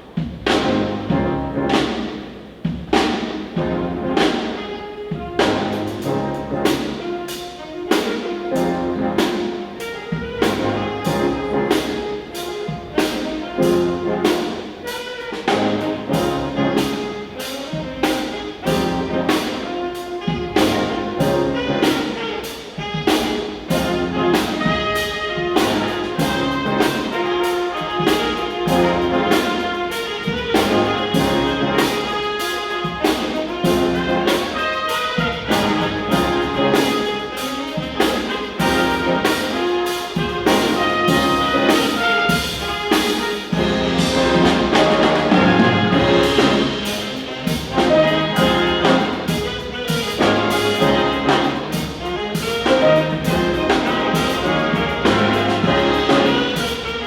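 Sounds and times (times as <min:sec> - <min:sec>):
brass band playing: 0:00.0 - 0:57.0
drum beat: 0:00.0 - 0:57.0
trumpets: 0:00.0 - 0:57.0.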